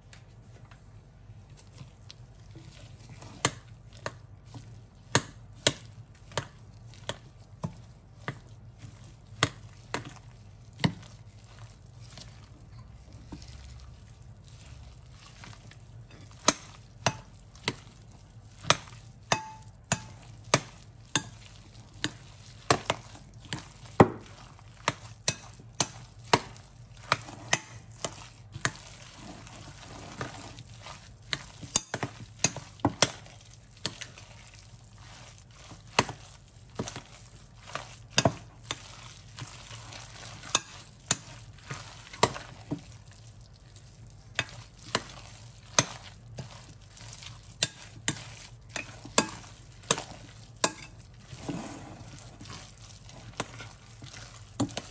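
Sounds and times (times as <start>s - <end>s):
wet squishing of kneaded filling: 0.0s - 54.9s.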